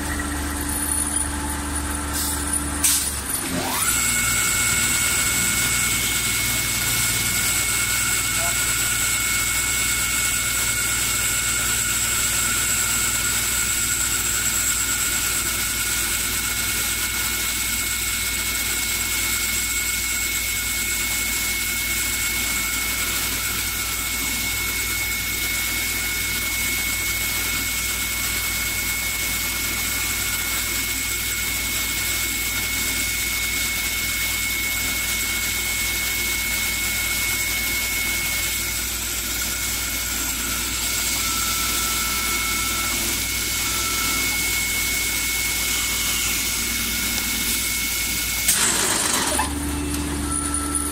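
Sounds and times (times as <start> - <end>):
lathe machine whine: 0.0 - 50.9.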